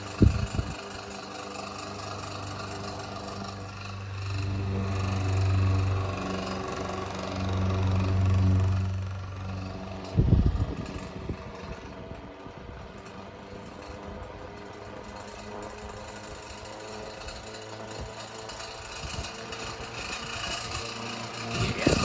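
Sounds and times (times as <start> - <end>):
table fan motor hum and rattle: 0.0 - 22.0.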